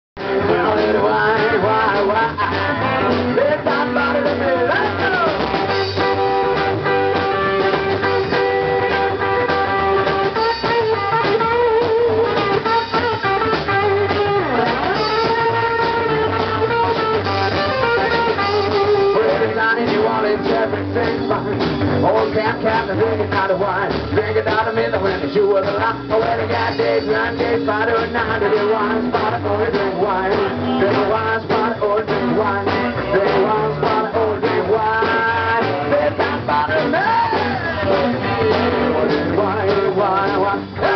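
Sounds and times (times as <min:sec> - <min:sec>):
drum kit: 0:00.2 - 0:40.9
electric guitar: 0:00.2 - 0:40.9
upright double bass: 0:00.2 - 0:40.9.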